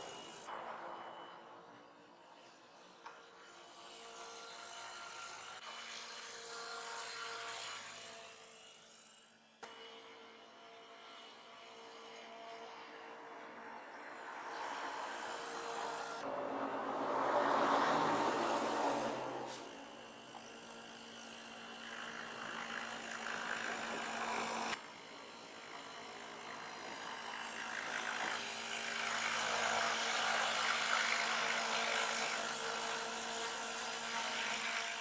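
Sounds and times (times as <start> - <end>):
model helicopter motor whine: 0.0 - 0.5, 4.0 - 16.3, 18.2 - 35.0.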